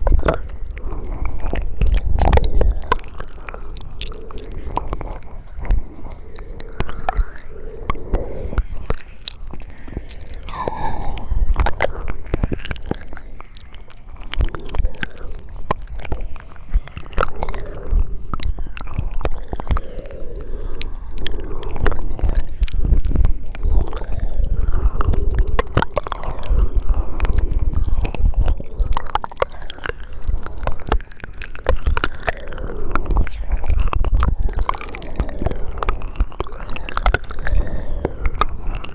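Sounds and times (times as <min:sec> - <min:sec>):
wet mouth smacks and clicks: 0:00.0 - 0:38.9.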